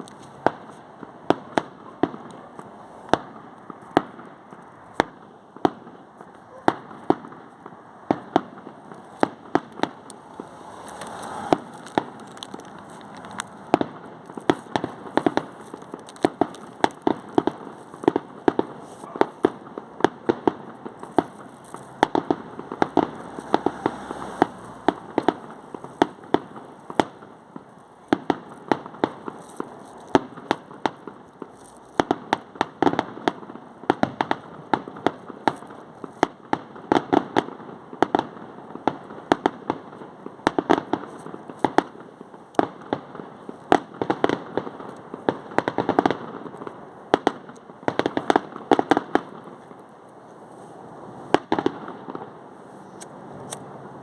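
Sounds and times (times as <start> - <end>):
fireworks banging: 0.0 - 54.0
fireworks crackling: 0.0 - 54.0.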